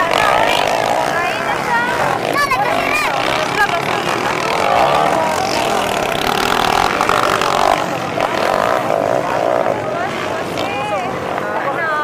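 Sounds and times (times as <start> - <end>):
motorcycle engines running hard: 0.0 - 12.0.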